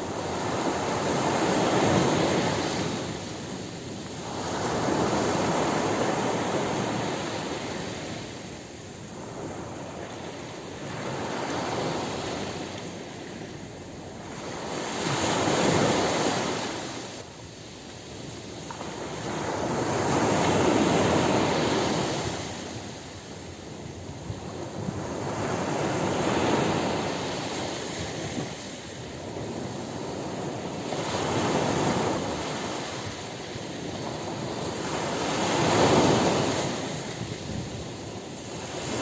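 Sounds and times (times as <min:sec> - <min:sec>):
ocean surf breaking on beach: 0:00.0 - 0:39.0.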